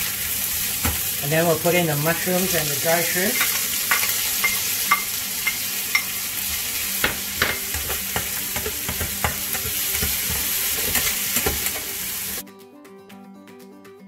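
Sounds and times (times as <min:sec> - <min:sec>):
food sizzling in a pan: 0:00.0 - 0:12.4
quiet background music: 0:00.0 - 0:14.0.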